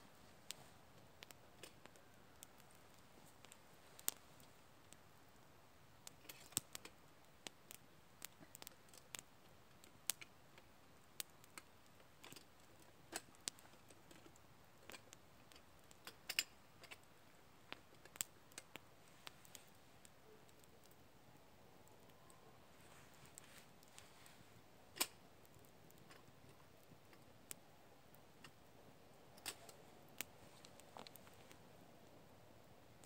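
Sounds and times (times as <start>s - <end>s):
campfire crackling and popping: 0.1s - 33.0s.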